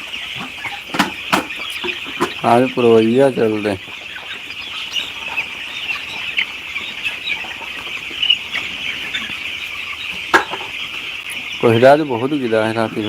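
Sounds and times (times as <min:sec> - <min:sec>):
chickens peeping: 0:00.0 - 0:13.0.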